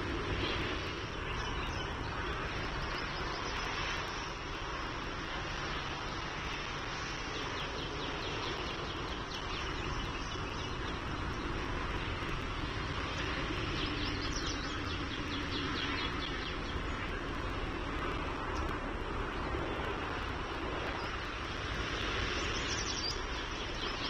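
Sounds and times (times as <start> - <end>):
outdoor background rumble: 0.0 - 24.0.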